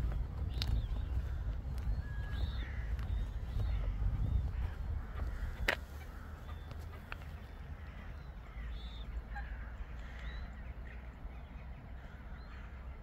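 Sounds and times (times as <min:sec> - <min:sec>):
steady low rumble: 0:00.0 - 0:11.4
waterbirds calling: 0:00.0 - 0:13.0.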